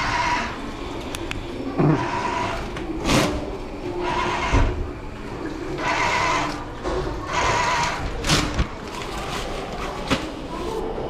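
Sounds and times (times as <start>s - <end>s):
paper towel dispenser motor whirring: 0.0s - 11.0s.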